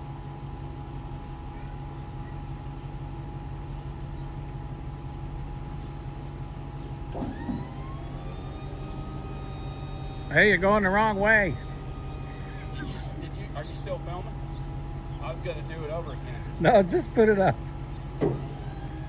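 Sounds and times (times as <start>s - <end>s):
electric lift motor whining: 0.0s - 19.0s
steady mechanical hum: 0.0s - 19.0s.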